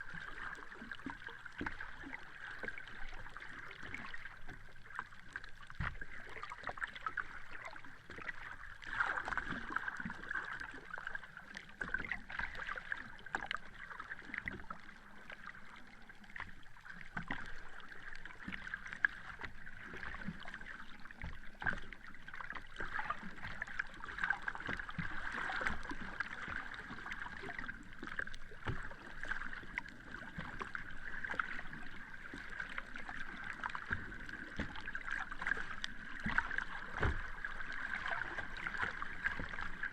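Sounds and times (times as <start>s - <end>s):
sea water lapping and splashing: 0.0s - 39.9s.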